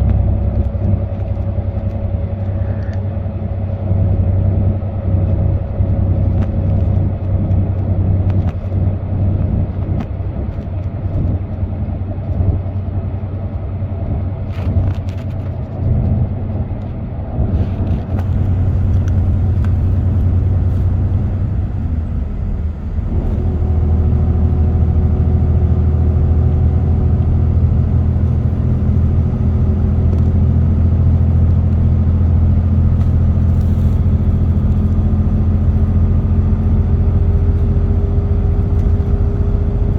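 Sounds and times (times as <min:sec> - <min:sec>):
car engine drone: 0:00.0 - 0:39.9
tyre and road rumble: 0:00.0 - 0:39.9.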